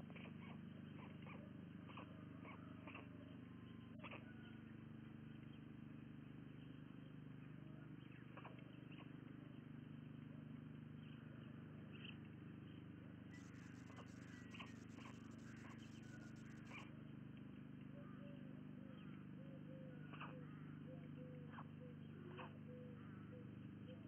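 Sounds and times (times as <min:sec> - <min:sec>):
low hum: 0:00.1 - 0:24.0.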